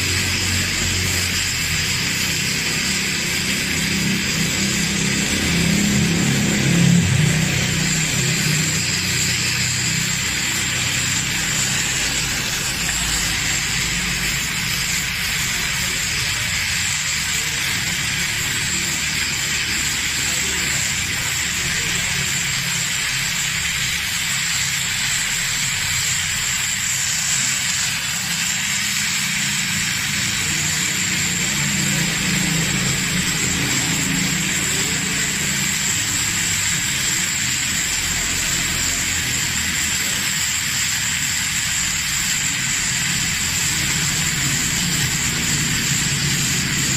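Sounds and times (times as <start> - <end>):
gas torch flame hissing: 0.0 - 46.9.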